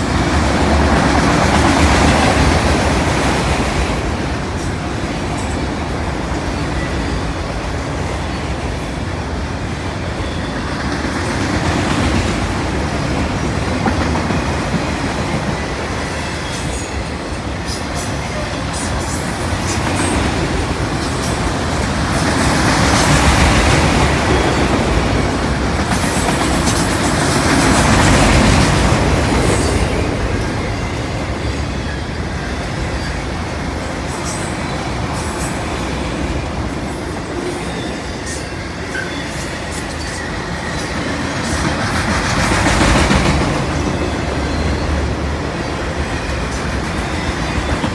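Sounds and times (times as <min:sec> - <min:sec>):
freight train cars rolling past: 0:00.0 - 0:47.9.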